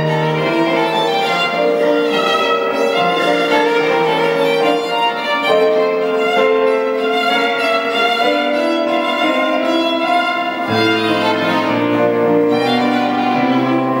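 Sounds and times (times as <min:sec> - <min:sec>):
violin slow melody: 0:00.0 - 0:14.0.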